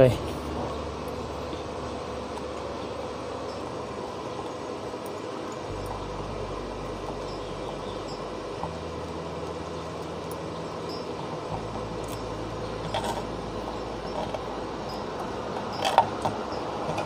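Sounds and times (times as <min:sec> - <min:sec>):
low electrical hum: 0:00.0 - 0:17.0
steady background hiss: 0:00.0 - 0:17.0.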